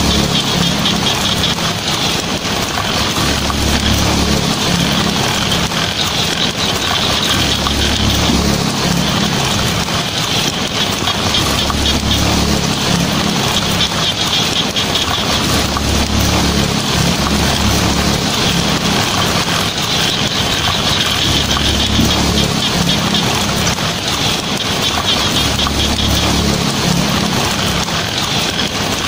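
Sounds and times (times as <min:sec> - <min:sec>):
heavy rain on a tin roof: 0:00.0 - 0:29.0
thunder rumbling: 0:00.0 - 0:29.0.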